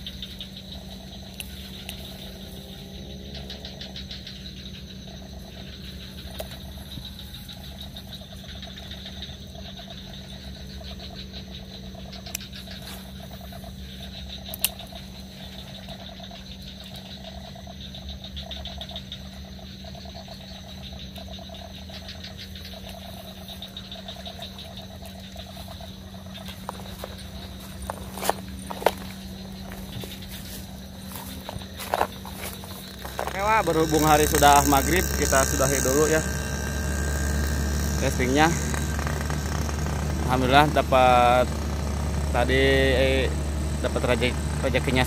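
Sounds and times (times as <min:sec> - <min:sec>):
frogs croaking in chorus: 0:00.0 - 0:45.0
high fast pulsing chirr: 0:00.0 - 0:45.0.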